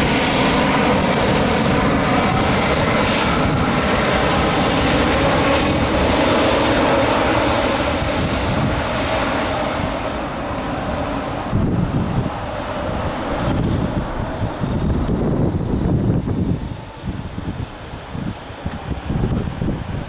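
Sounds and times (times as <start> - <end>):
jet engines running loudly: 0.0 - 20.0.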